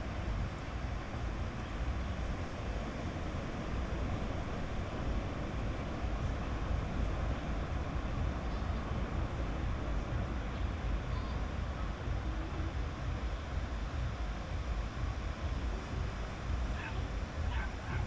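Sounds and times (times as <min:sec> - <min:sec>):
deep low rumble: 0:00.0 - 0:18.0
sea waves washing onto beach: 0:00.0 - 0:18.0.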